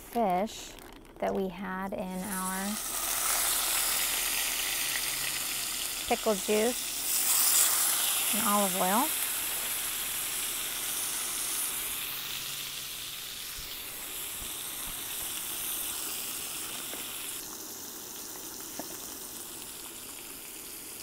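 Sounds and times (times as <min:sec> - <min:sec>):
fish fillets sizzling in a skillet: 0:02.2 - 0:21.0.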